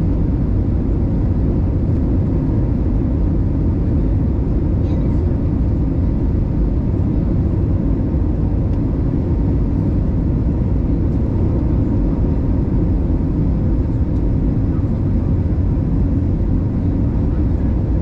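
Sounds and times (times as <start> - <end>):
jet engines roaring in cabin: 0.0 - 18.0.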